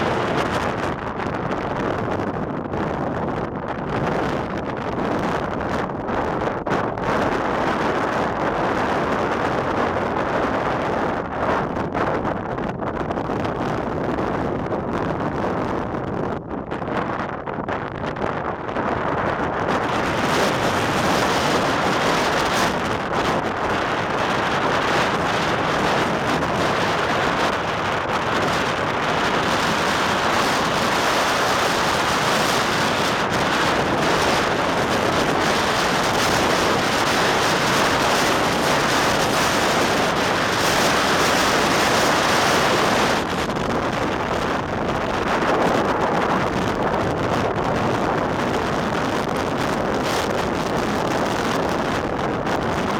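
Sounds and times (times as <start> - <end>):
strong wind blowing on microphone: 0.0 - 52.9.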